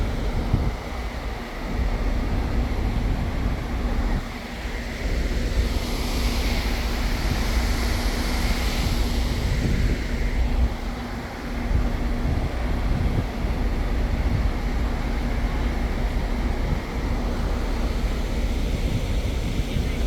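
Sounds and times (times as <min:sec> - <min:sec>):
steady low hum: 0:00.0 - 0:20.0
wind buffeting microphone: 0:00.0 - 0:20.0.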